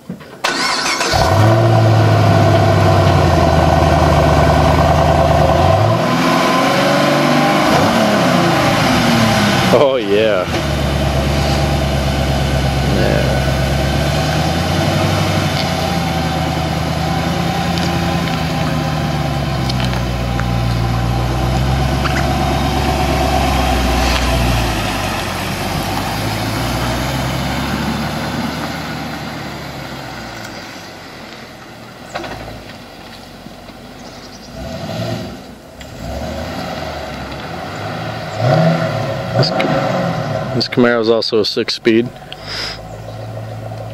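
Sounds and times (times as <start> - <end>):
car engine running at low speed: 1.1 - 43.9.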